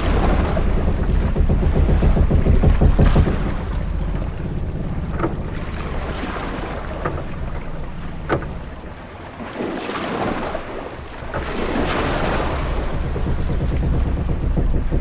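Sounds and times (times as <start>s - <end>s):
low rumble of wind and water: 0.0s - 15.0s
waves washing up: 0.0s - 15.0s.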